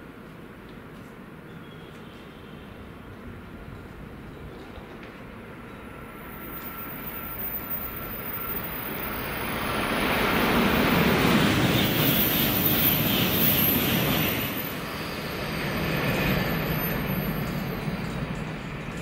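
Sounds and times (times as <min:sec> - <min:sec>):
high-speed train passing: 0:02.4 - 0:19.0.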